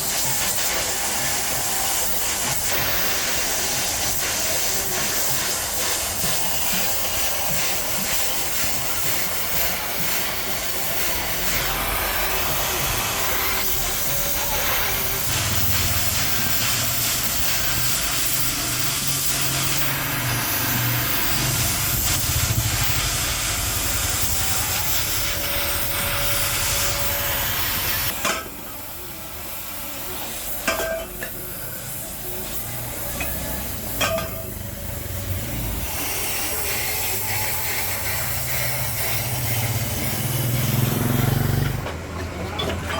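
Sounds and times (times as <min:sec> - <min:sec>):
hissing workshop machine: 0:00.0 - 0:42.9.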